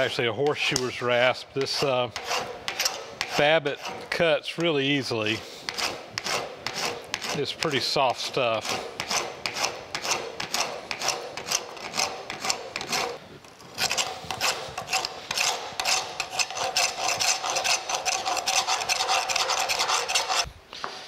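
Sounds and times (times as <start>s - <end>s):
rasp filing soft metal: 0.0s - 20.5s.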